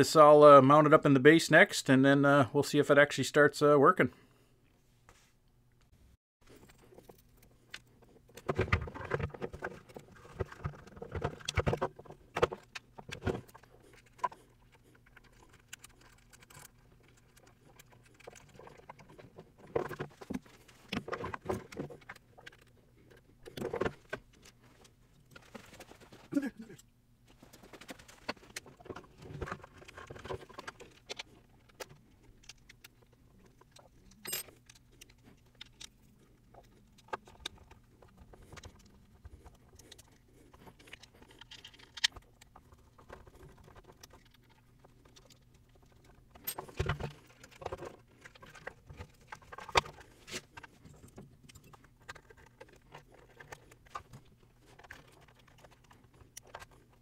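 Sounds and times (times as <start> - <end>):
plastic parts clicking and knocking: 6.5 - 26.3, 27.3 - 57.0.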